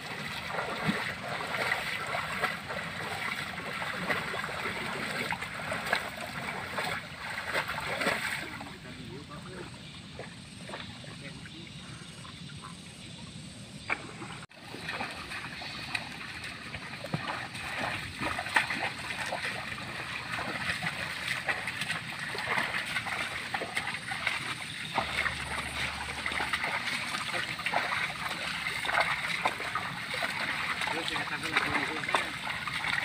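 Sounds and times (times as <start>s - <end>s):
splashing in water and mud: 0.0s - 12.0s, 13.8s - 33.0s.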